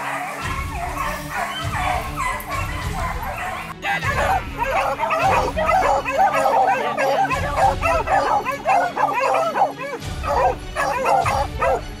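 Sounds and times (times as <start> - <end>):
beagles yelping and baying: 0.0 - 12.0.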